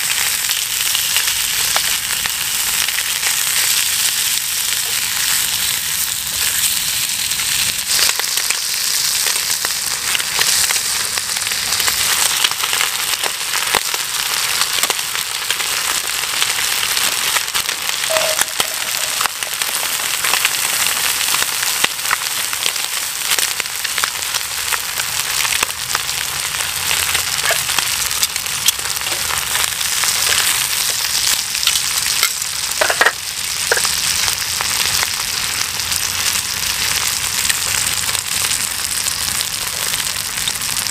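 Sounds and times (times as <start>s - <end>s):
bacon and sausages sizzling: 0.0s - 40.9s.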